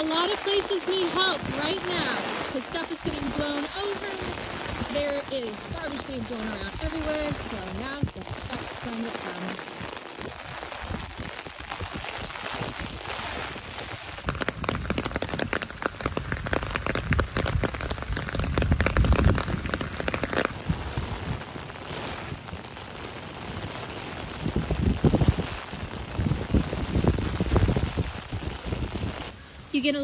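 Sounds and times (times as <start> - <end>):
heavy rain on pavement: 0.0 - 30.0
rain drumming on umbrella: 0.0 - 30.0
wind rumbling on microphone: 0.0 - 30.0.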